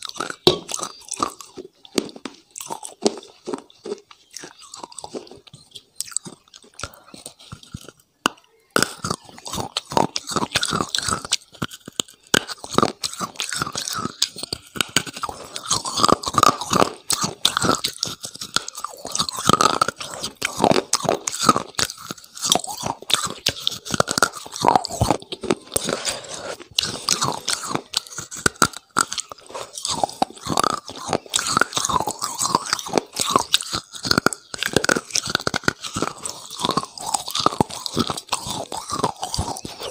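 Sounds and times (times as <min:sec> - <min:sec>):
crunching brittle food: 0:00.0 - 0:39.9.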